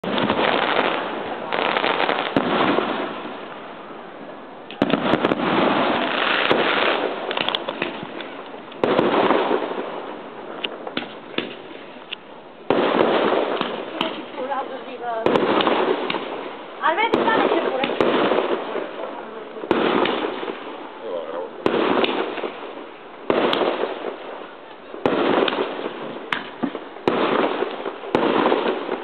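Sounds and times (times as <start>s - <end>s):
firework bangs: 0.0s - 29.0s
firework crackles: 0.0s - 29.0s.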